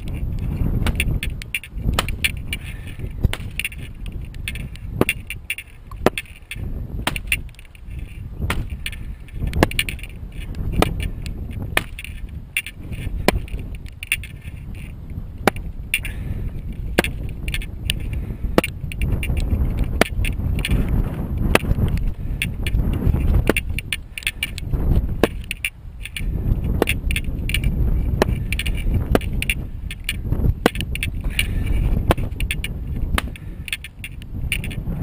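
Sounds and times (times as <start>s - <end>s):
rustling twigs: 0.0s - 34.8s
wooden maul knocking stakes: 0.8s - 7.7s, 8.4s - 14.4s, 15.4s - 16.2s, 16.9s - 33.9s.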